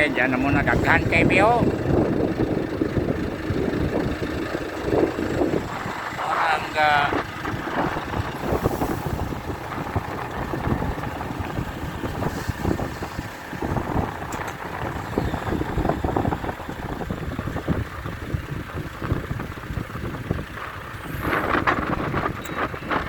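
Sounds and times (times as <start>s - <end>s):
heavy engine running: 0.0s - 23.0s
wind buffeting microphone: 0.0s - 23.0s.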